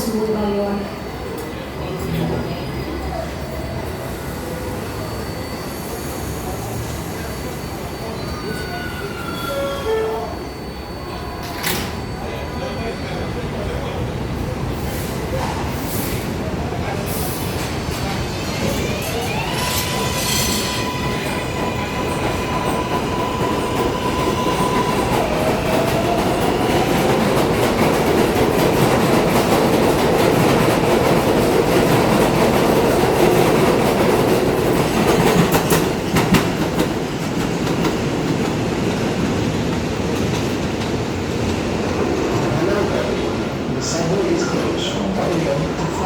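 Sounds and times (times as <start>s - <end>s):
subway train rumble and clatter: 0.0s - 46.0s.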